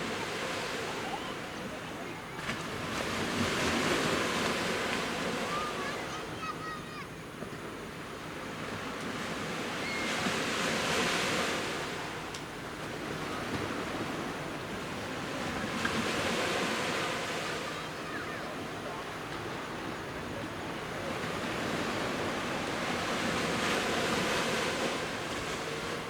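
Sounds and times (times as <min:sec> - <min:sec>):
sea waves breaking on beach: 0:00.0 - 0:07.0, 0:08.2 - 0:26.0.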